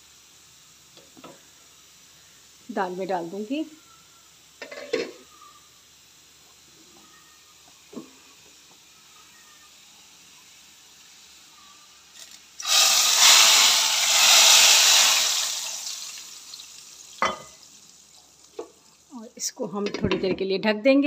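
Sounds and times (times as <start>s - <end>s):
hot oil hissing and sizzling: 0.0s - 19.5s.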